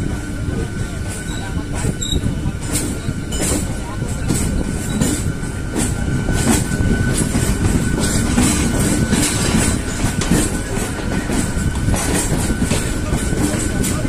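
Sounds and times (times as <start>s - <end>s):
train wheels clacking over rail joints: 0.6s - 14.0s.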